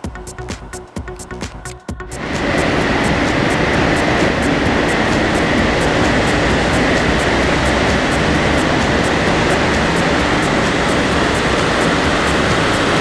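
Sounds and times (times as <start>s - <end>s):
faint regular ticking: 0.0s - 13.0s
van engine on dynamometer rollers: 2.1s - 13.0s.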